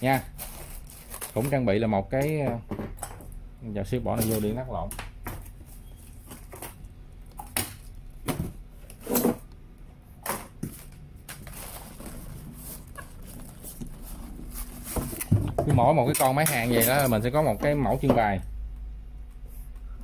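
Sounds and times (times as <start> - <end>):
cardboard and plastic rustling: 0.0 - 3.3, 4.1 - 9.5, 10.2 - 18.4.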